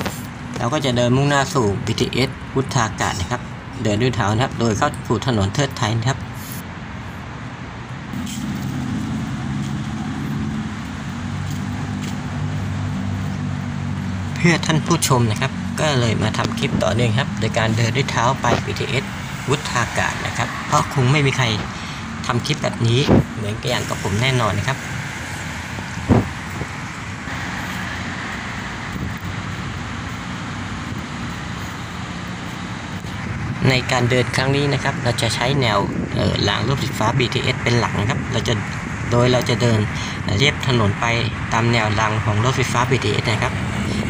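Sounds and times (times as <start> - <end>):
street traffic: 0.0 - 44.0
vehicle engine humming: 0.0 - 44.0.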